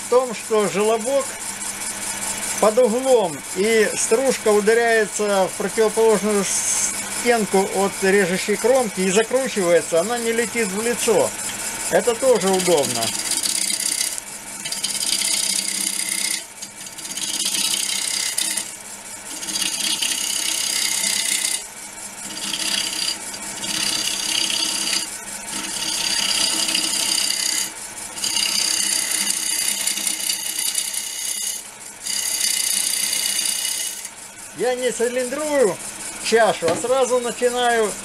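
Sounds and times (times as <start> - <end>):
cutter hissing through wood: 0.0 - 38.0
wood lathe running: 0.0 - 38.0.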